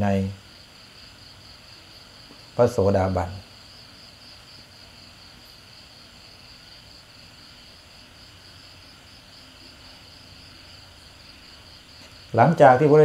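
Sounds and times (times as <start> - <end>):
faint low hum: 0.0 - 13.0
high-pitched insect trill: 0.0 - 13.0.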